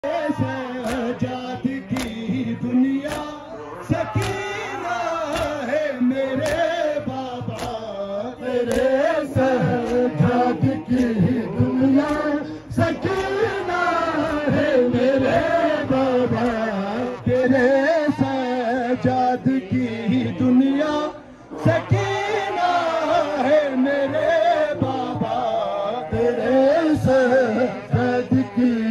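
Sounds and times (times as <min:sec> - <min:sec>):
men chanting a lament: 0:00.0 - 0:28.9.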